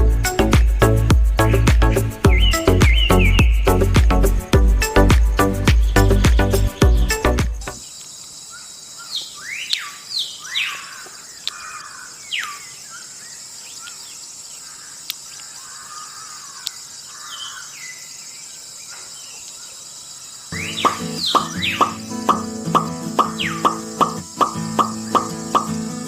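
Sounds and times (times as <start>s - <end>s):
birds chirping: 0.0s - 26.0s
high insect drone: 0.0s - 26.0s.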